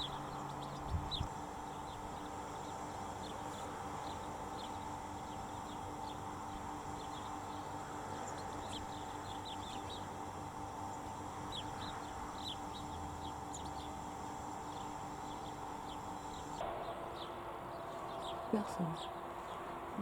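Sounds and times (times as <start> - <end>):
small birds chirping: 0.0 - 20.0
steady background hum: 0.0 - 20.0.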